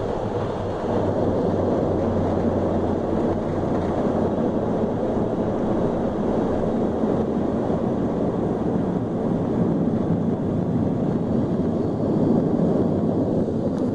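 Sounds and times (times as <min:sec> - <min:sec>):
airliner cabin roar: 0:00.0 - 0:13.9.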